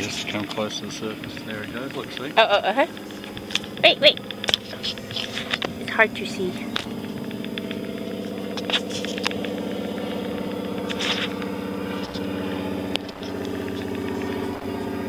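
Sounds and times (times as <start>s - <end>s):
motor humming: 0.0s - 15.0s
sharp clicks: 0.4s - 14.8s.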